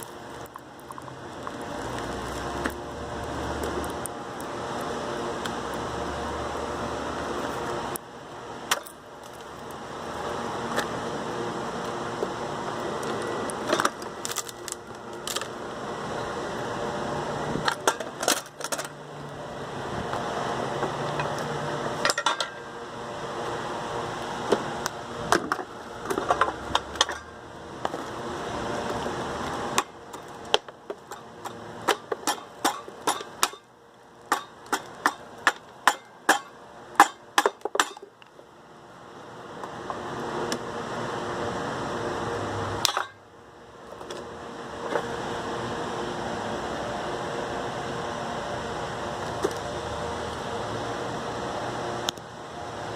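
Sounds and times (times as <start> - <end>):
steady background noise: 0.0 - 52.9.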